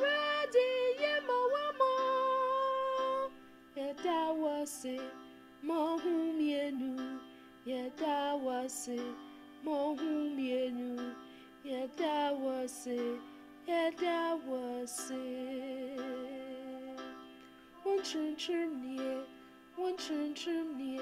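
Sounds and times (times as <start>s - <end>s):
woman singing gospel: 0.0s - 17.0s, 17.8s - 21.0s.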